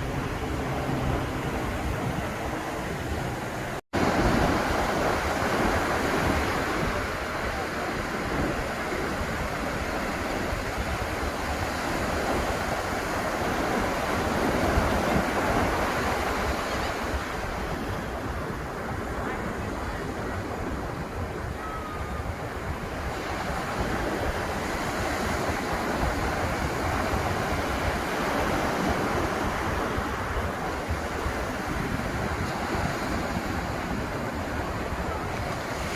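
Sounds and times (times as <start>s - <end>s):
ocean surf breaking on beach: 0.0s - 35.9s.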